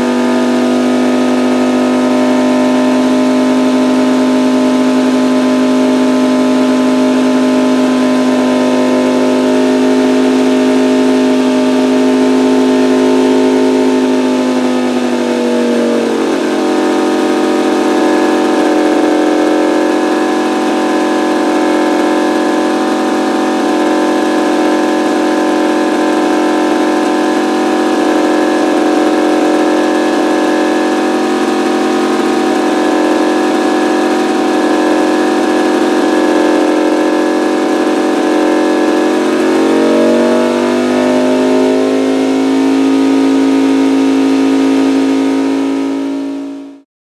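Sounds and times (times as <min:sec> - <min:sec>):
aircraft engine running: 0:00.0 - 0:46.8.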